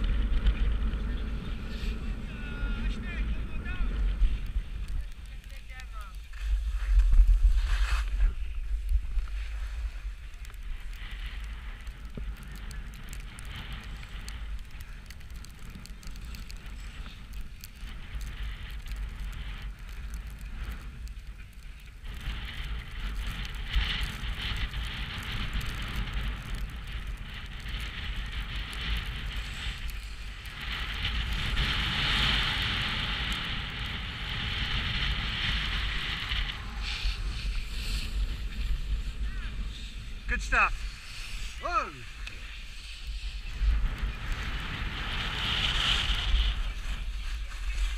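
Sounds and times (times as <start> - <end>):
skis scraping over snow: 0.0 - 47.9
wind buffeting microphone: 0.0 - 47.9.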